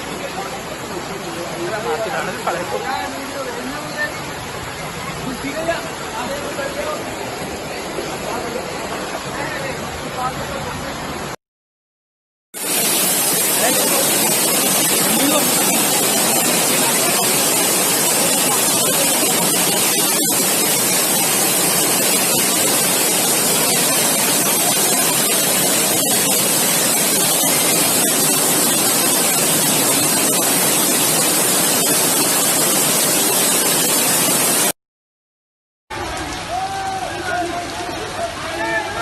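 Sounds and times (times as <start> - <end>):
floodwater rushing: 0.0 - 11.4, 12.6 - 34.8, 35.9 - 39.0.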